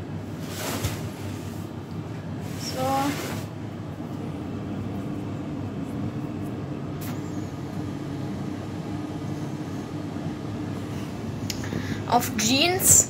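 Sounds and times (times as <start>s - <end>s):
tumble dryer humming and rumbling: 0.0s - 13.0s.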